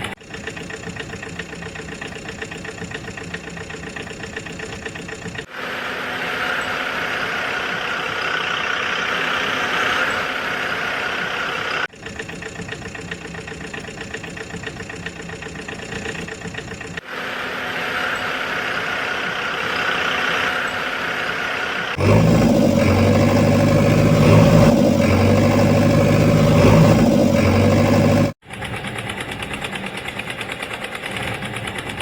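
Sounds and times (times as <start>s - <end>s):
heavy machine engine running: 0.0s - 32.0s.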